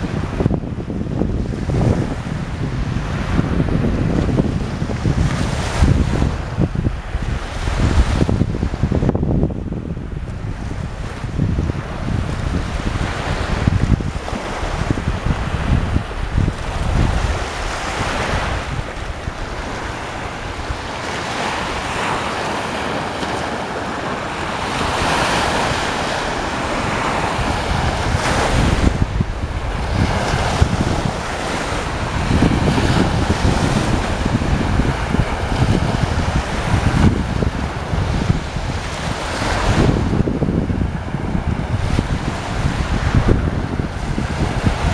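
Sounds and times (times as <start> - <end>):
waves breaking and washing ashore: 0.0 - 44.9
wind buffeting microphone: 0.0 - 44.9.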